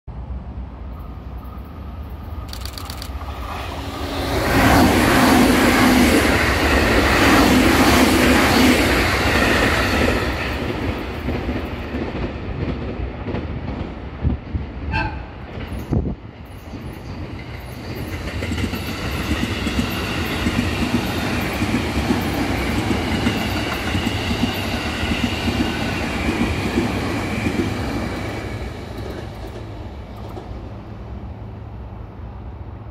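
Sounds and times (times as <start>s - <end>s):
electric train passing: 0.1s - 32.9s
faint train whine: 0.1s - 32.9s.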